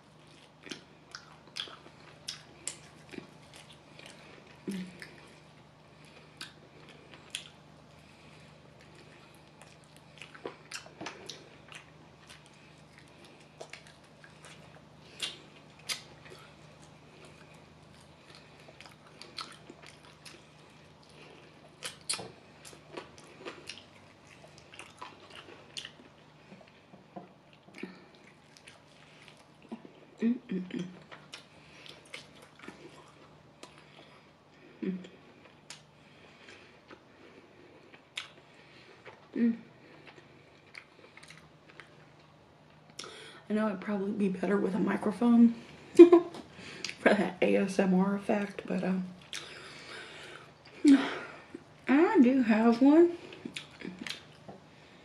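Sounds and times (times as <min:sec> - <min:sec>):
chewing and mouth smacks: 0:00.2 - 0:30.2, 0:30.8 - 0:34.2, 0:35.0 - 0:43.2, 0:49.2 - 0:50.9, 0:53.2 - 0:54.7.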